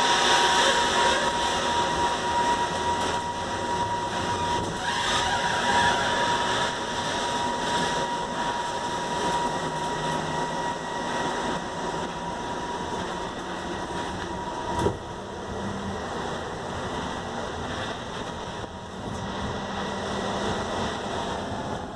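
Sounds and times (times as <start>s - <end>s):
electric drive whine: 0.0s - 21.9s
road and rolling noise: 0.0s - 21.9s.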